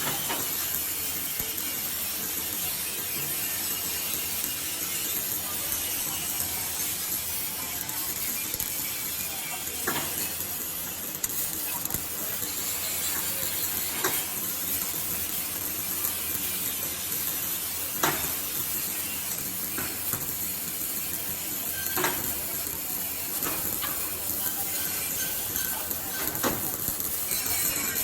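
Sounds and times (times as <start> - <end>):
arc welding hiss and crackle: 0.0 - 28.0.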